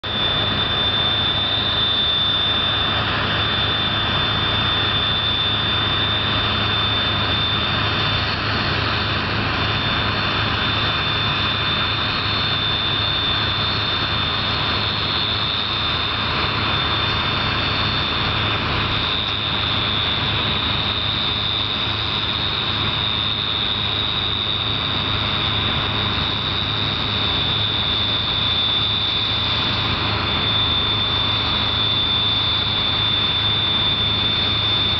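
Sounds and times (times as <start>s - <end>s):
combine harvester engine: 0.0s - 34.9s.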